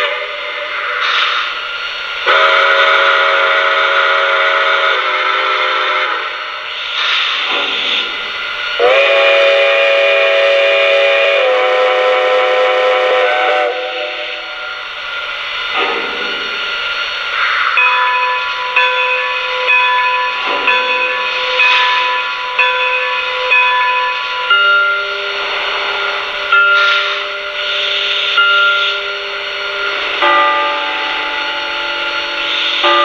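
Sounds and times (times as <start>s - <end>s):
steam hissing and chuffing: 0.0s - 33.0s
steam whistle blast: 0.0s - 33.0s.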